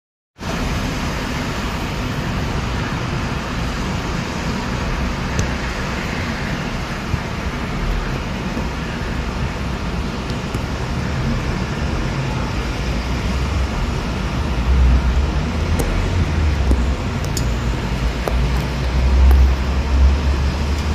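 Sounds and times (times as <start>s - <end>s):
traffic on a wet road: 0.4s - 20.9s.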